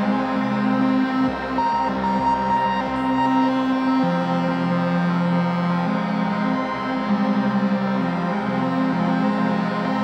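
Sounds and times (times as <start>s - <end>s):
drone synthesizer music: 0.0s - 10.0s.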